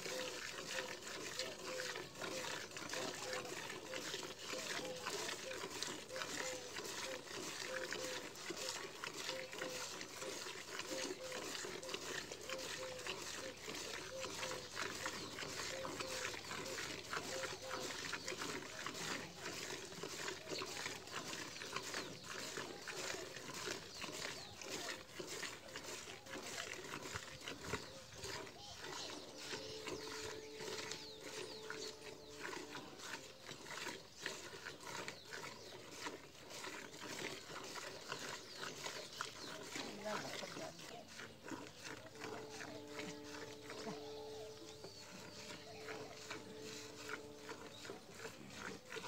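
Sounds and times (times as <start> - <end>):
milk squirting into a bucket: 0.0 - 49.0.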